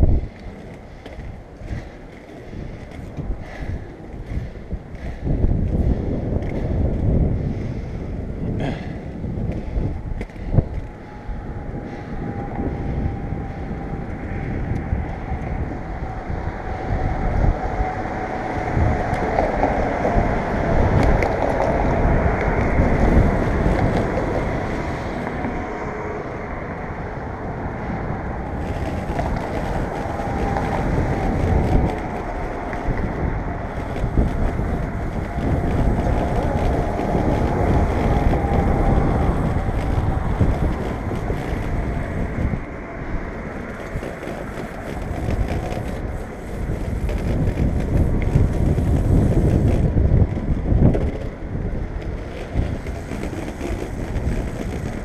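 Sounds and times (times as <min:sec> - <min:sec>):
skateboard wheels rolling on concrete: 0:00.0 - 0:55.0
wind buffeting microphone: 0:00.0 - 0:55.0.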